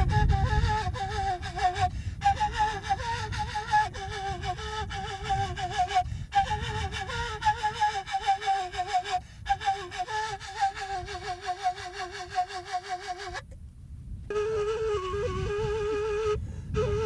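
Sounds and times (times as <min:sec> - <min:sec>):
breathy flute melody: 0:00.0 - 0:13.5, 0:14.3 - 0:17.0.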